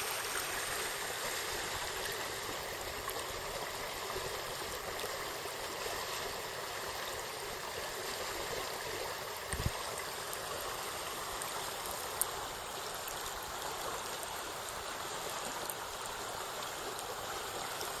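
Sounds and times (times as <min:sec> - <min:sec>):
water rushing over stones: 0:00.0 - 0:18.0.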